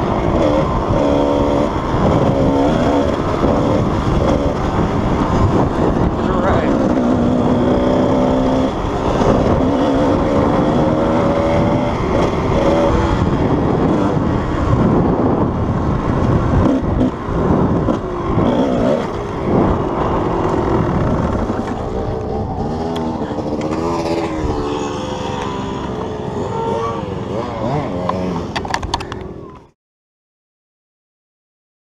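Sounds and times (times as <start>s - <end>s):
dirt bike engine revving: 0.0s - 28.7s.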